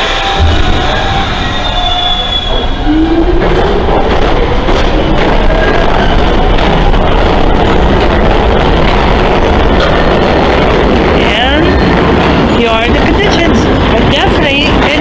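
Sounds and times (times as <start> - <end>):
subway train wheel and rail rumble: 0.0 - 15.0.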